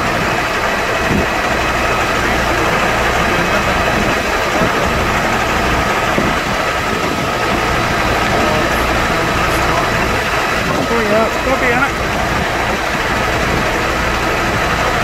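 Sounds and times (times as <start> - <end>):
fire engine pump droning: 0.0 - 15.0
thin steady whine: 0.0 - 15.0.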